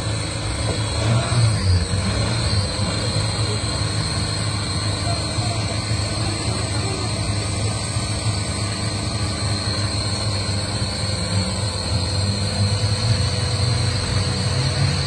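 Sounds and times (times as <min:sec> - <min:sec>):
high whine: 0:00.0 - 0:15.0
truck engine under load: 0:00.0 - 0:15.0.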